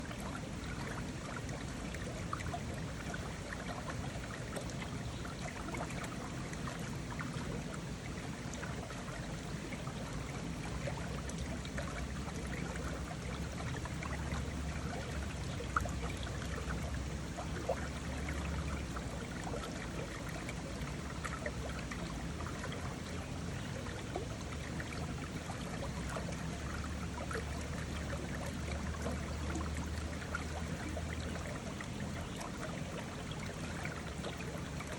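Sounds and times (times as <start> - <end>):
water splashes: 0.0 - 34.9.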